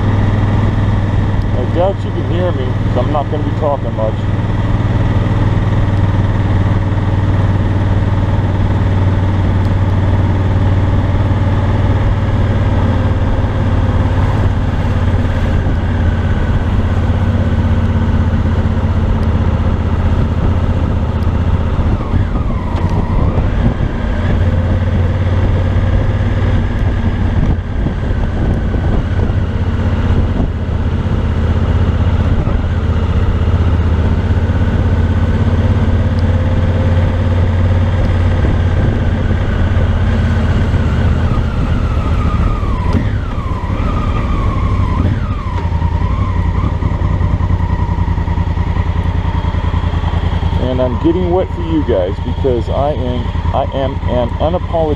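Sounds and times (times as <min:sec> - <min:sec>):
motorcycle engine at low revs: 0:00.0 - 0:54.9.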